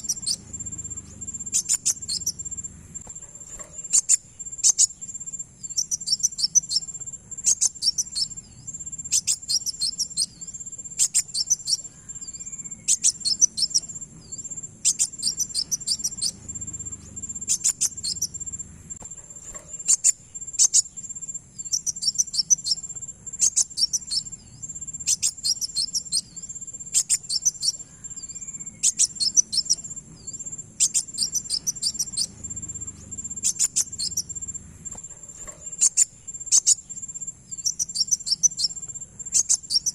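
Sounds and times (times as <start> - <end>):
bird chirping in rapid bursts: 0.0 - 39.9
high-pitched insect-like trill: 0.0 - 39.9.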